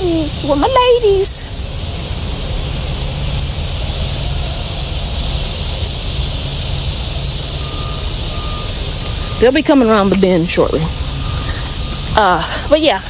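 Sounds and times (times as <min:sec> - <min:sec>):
high-pitched hiss: 0:00.0 - 0:13.0
wind buffeting microphone: 0:00.0 - 0:13.0.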